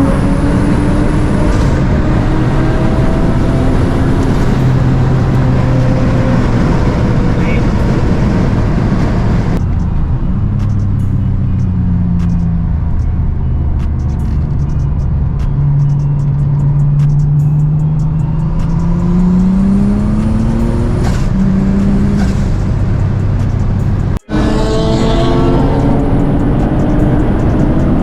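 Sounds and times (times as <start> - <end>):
music playing: 0.0 - 8.0, 9.6 - 28.0
car engine running: 0.0 - 28.0.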